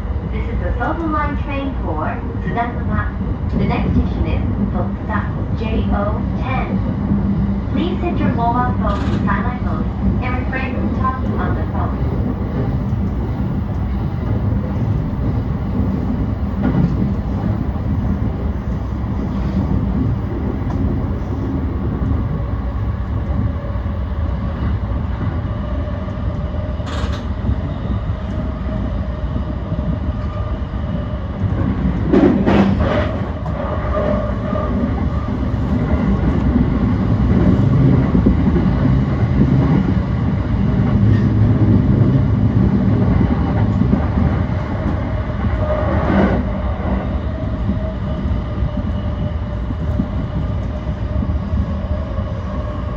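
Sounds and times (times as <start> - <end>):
train wheels rumbling on track: 0.0 - 52.9.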